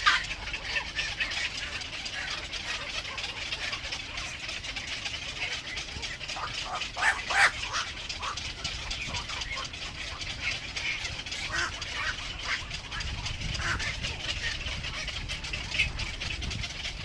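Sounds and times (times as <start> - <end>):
birds making harsh calls: 0.0 - 17.0.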